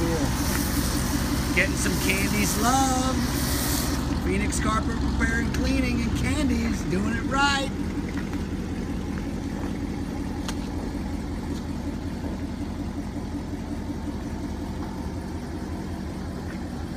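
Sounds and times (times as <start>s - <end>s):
engine running steadily: 0.0s - 16.9s.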